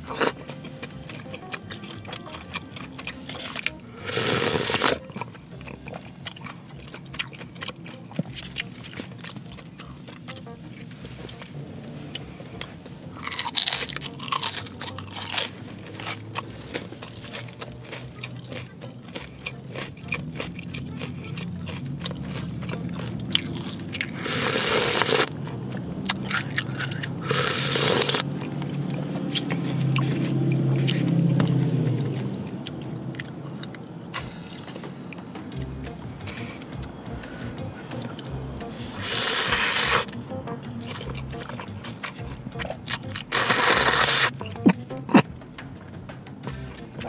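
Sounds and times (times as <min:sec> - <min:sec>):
wet chewing and smacking: 0:00.0 - 0:45.3.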